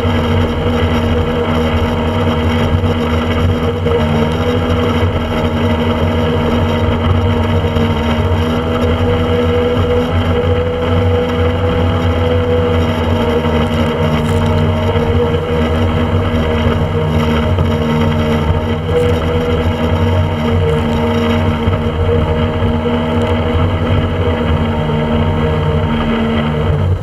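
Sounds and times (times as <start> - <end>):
motorboat engine running: 0.0 - 27.0.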